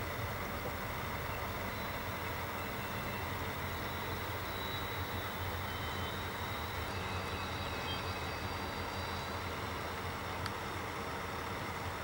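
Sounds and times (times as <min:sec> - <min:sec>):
distant train rumbling past: 0:00.0 - 0:12.0.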